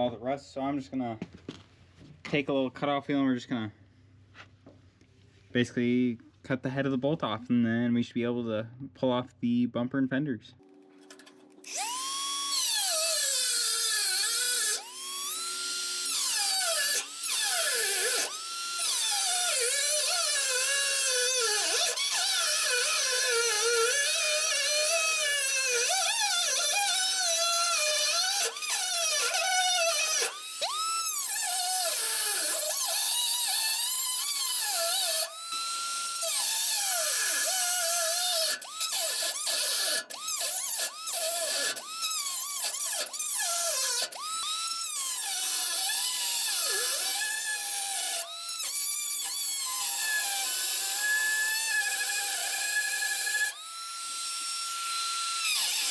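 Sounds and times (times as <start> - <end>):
cutoff wheel whining: 11.0 - 55.9.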